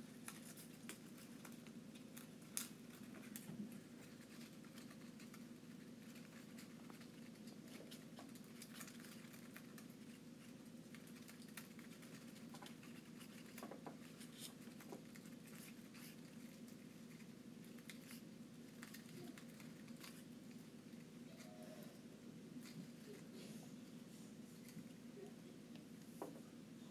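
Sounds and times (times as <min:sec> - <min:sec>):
low room hum: 0:00.0 - 0:26.9.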